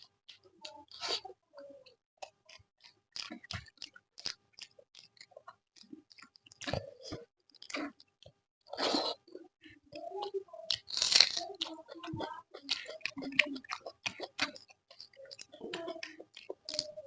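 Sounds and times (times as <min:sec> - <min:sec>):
person chewing with mouth smacks: 0:00.0 - 0:17.0.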